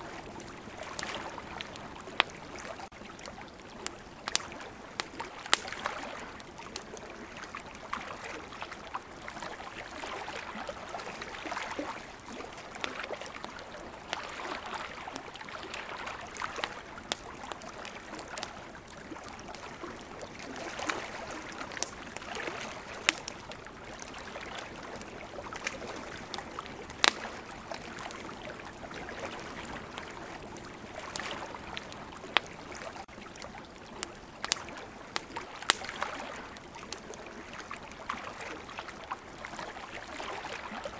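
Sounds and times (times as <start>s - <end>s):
wood campfire crackling: 0.0s - 40.9s.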